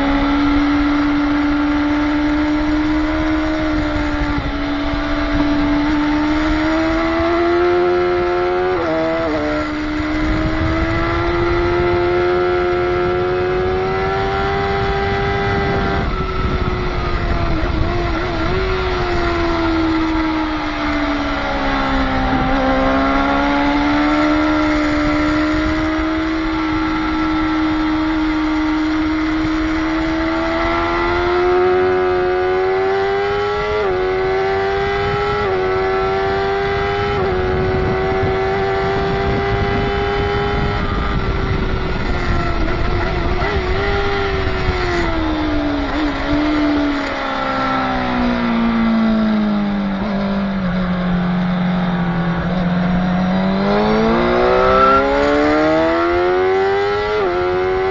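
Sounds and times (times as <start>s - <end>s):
motorcycle engine at high revs: 0.0s - 57.9s
wind rush: 0.0s - 57.9s.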